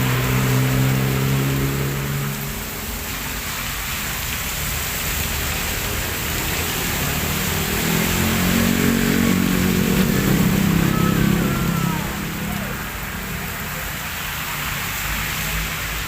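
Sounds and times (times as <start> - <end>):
heavy rain: 0.0 - 16.0
vehicle engine passing: 0.0 - 16.0.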